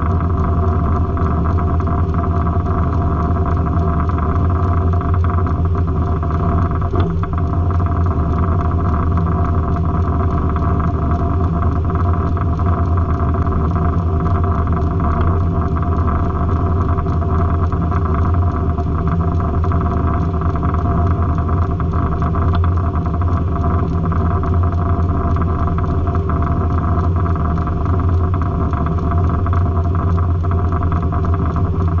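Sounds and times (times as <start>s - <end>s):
sawmill engine drone: 0.0s - 32.0s.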